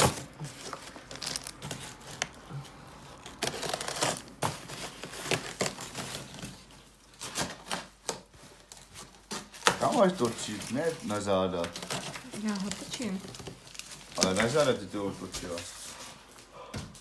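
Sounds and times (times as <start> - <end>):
packaging rustling and crinkling: 0.0 - 16.4.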